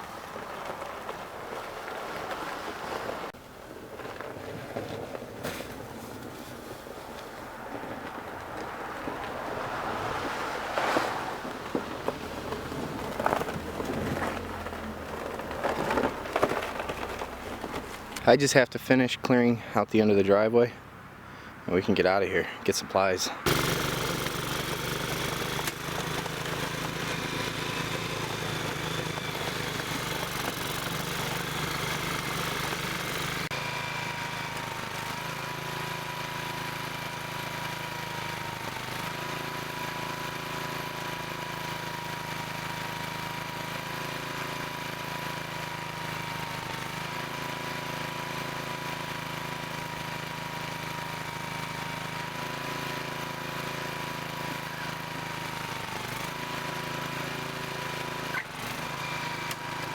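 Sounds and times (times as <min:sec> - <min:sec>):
snowblower engine running: 0:00.0 - 0:18.4, 0:23.4 - 0:59.9.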